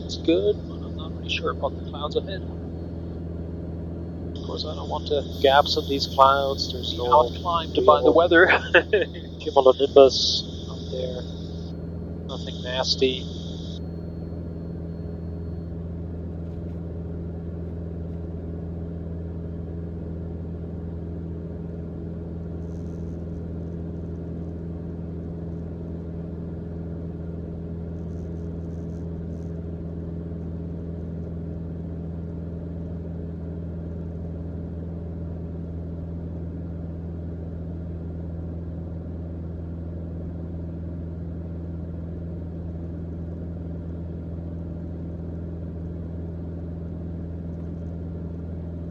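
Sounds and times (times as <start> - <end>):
airplane engine and propeller drone: 0.0 - 22.6, 23.4 - 48.9.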